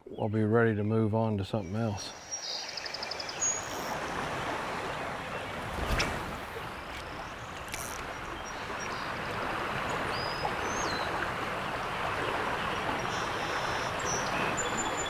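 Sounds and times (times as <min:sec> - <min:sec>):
river running over riffles: 0:01.9 - 0:15.0.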